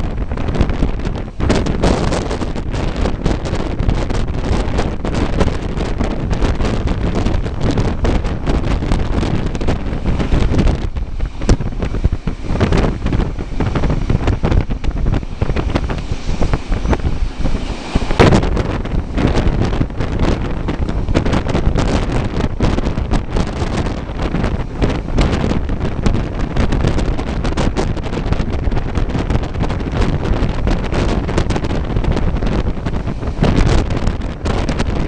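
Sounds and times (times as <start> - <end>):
train rumbling: 0.0 - 35.0
wind buffeting microphone: 0.0 - 35.0.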